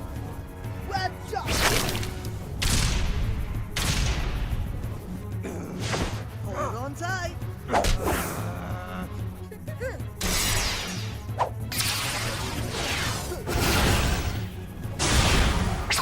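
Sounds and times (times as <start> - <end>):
action background music: 0.0 - 16.0.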